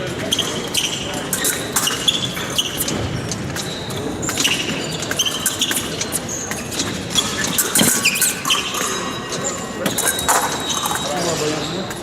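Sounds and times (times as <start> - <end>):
shoe squeaks: 0.0 - 12.0.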